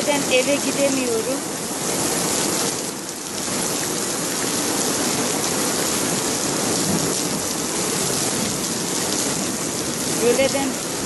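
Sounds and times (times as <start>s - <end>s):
heavy rain on standing water: 0.0s - 11.0s.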